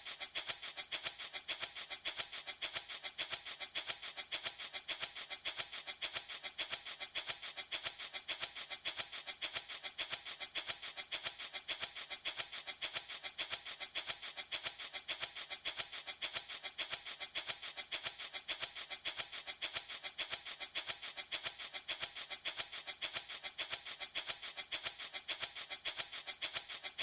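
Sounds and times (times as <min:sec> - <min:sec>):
baby rattle shaken: 0:00.0 - 0:27.0.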